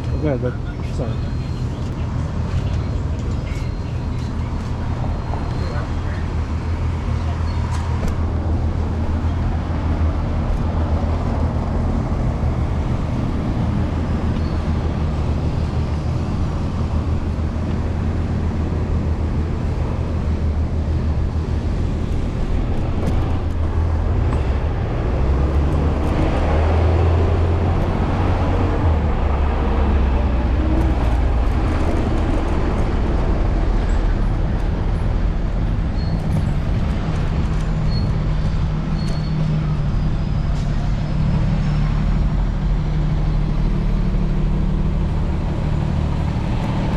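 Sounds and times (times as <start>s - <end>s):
street traffic rumble: 0.0s - 46.9s.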